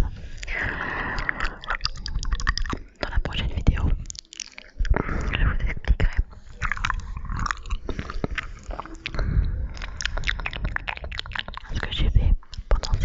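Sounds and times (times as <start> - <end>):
wet mouth clicks and smacks: 0.0 - 13.0.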